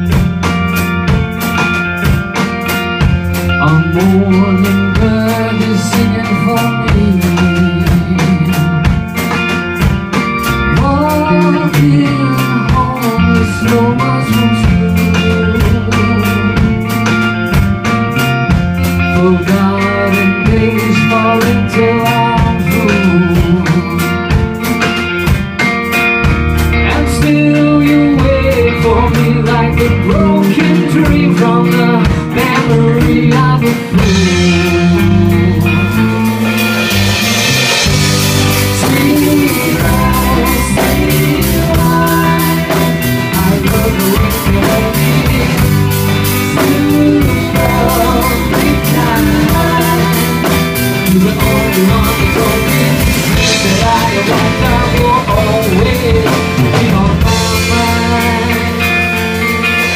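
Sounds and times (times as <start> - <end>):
drum kit steady beat: 0.0 - 59.9
electric bass: 0.0 - 59.9
man singing: 3.4 - 9.6, 10.4 - 17.4, 18.2 - 25.0, 26.7 - 59.9.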